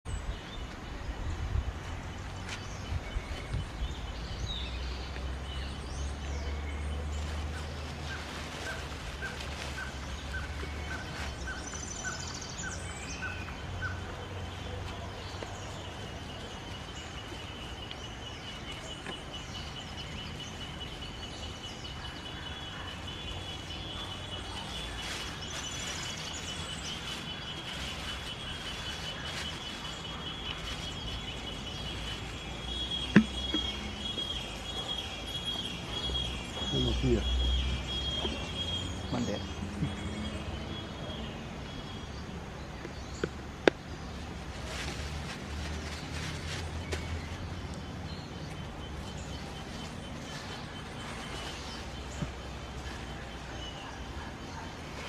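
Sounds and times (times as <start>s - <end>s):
birds calling and chirping: 0.1s - 55.0s.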